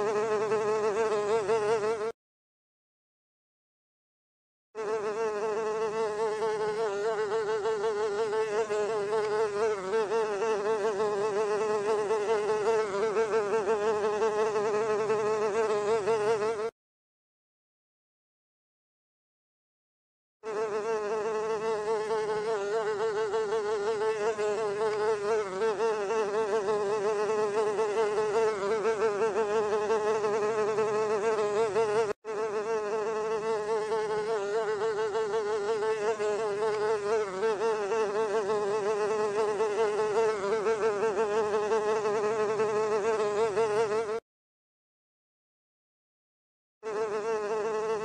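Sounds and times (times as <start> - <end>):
housefly buzzing: 0.0 - 2.2, 4.8 - 16.8, 20.4 - 44.3, 46.8 - 48.0.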